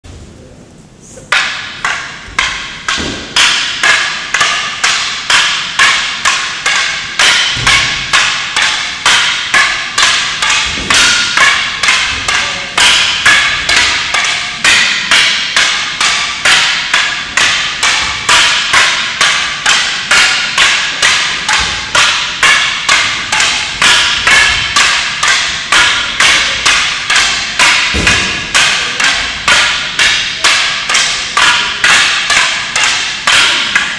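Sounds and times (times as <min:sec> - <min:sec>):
wooden swords clacking: 0:01.2 - 0:33.9.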